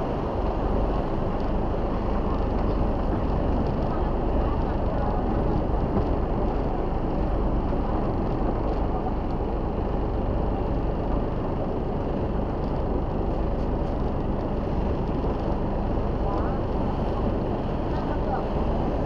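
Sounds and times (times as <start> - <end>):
boat engine droning: 0.0 - 19.0
water rushing along hull: 0.0 - 19.0.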